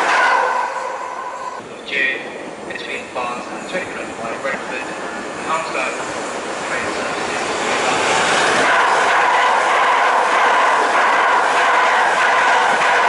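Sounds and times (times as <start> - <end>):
train electric whine: 0.0 - 13.0
train wheels rushing on rails: 0.0 - 13.0.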